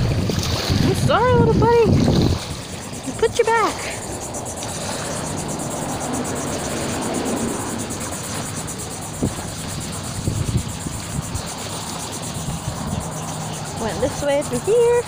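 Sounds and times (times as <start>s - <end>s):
wind on microphone: 0.0s - 15.0s
faint engine drone: 0.8s - 15.0s.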